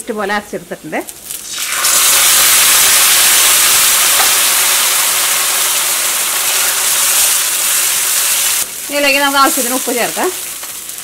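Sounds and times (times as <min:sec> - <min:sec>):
paste sizzling in hot oil: 0:01.1 - 0:11.0.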